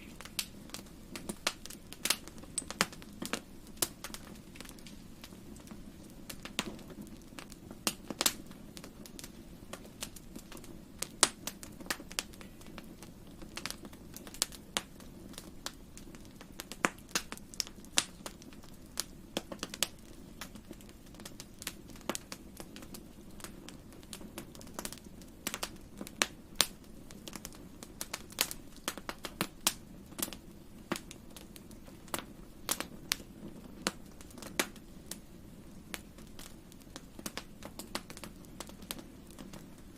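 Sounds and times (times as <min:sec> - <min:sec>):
fire crackling and popping: 0:00.0 - 0:39.9
low rustle of flames: 0:00.0 - 0:39.9.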